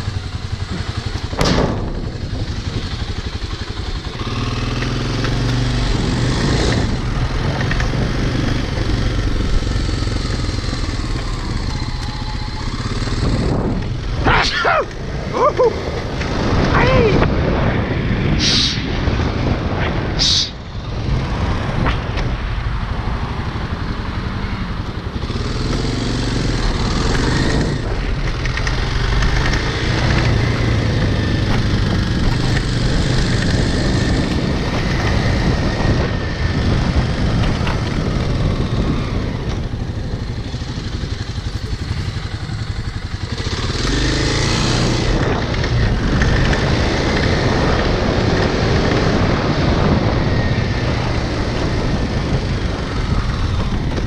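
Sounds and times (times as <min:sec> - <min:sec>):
motorcycle engine running: 0:00.0 - 0:18.3, 0:20.6 - 0:54.0.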